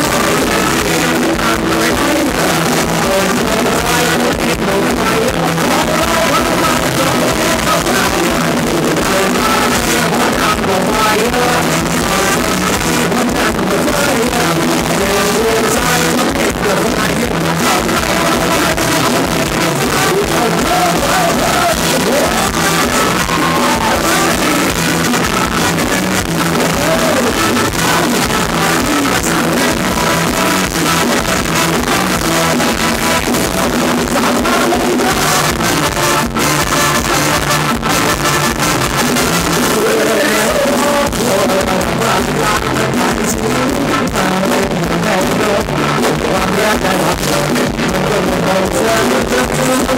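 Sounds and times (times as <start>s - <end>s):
live band dance music: 0.0s - 49.9s
man singing through pa: 0.0s - 49.9s.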